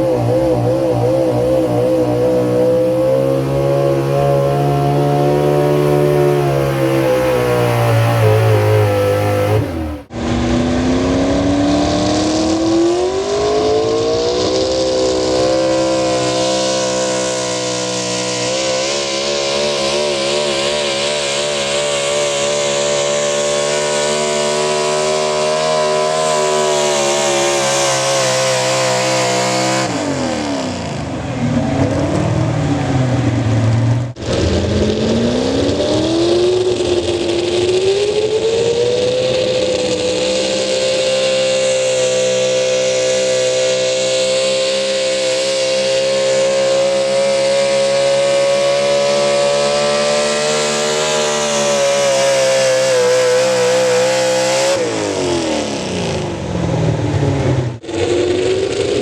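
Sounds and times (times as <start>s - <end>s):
engine at full throttle: 0.0s - 59.0s
engine revving up: 0.0s - 59.0s.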